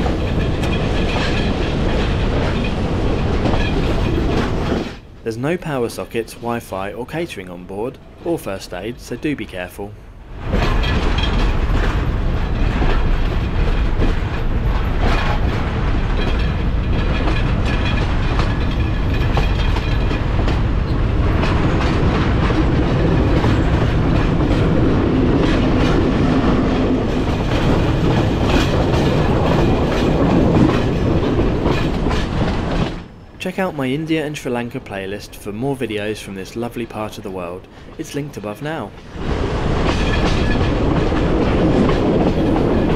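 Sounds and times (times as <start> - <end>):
train wheels clickety-clack: 0.0 - 5.1, 10.4 - 42.9.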